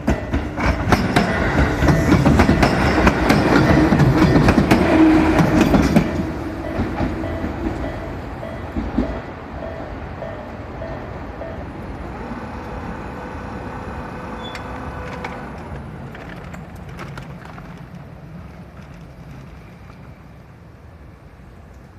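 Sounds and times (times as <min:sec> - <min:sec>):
electric train rumble: 0:00.0 - 0:21.9.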